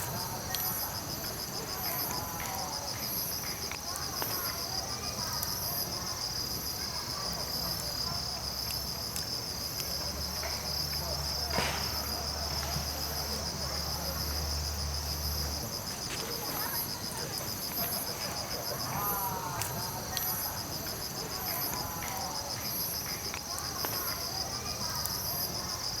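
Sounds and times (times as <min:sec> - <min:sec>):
insects chirping in a trill: 0:00.0 - 0:26.0.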